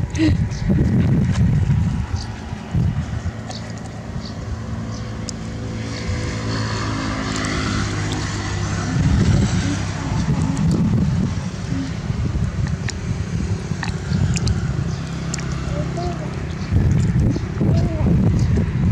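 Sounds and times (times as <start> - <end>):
vehicle engine running: 0.0 - 18.9
wind buffeting microphone: 0.0 - 18.9.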